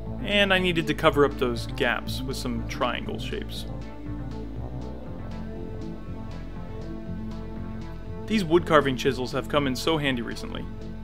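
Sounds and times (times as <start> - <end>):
background music with held chords: 0.0 - 11.0
light steady beat: 0.0 - 11.0.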